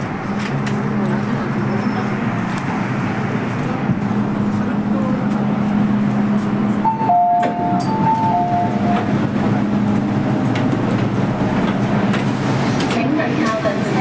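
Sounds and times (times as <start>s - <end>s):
train carriage hum and rumble: 0.0s - 14.0s.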